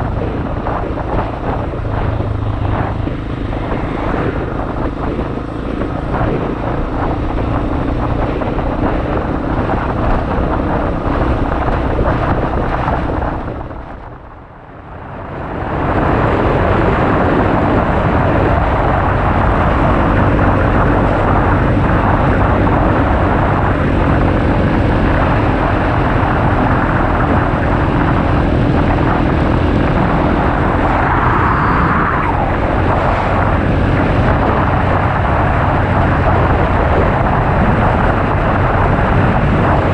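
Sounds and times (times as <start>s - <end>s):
motorcycle engine cruising: 0.0s - 39.9s
wind over microphone: 0.0s - 39.9s.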